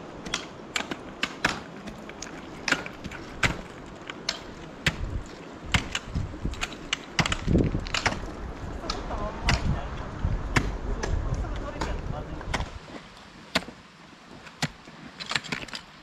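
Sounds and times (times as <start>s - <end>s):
ice axes striking ice: 0.2s - 9.8s, 10.5s - 16.0s.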